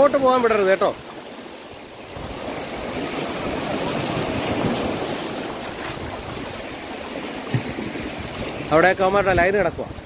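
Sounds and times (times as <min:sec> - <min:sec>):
surf washing over rocks: 0:00.0 - 0:10.0.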